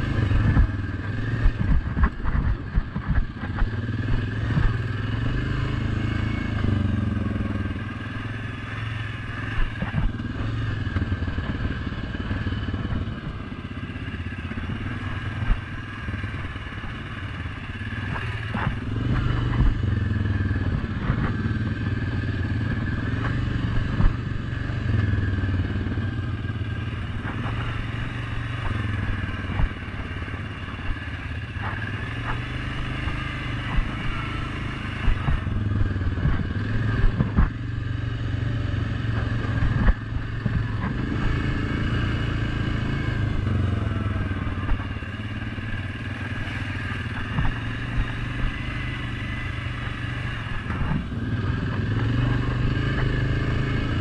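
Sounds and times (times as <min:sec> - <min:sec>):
atv knocking over rough trail: 0:00.0 - 0:07.7, 0:09.1 - 0:54.0
atv engine running: 0:00.0 - 0:54.0.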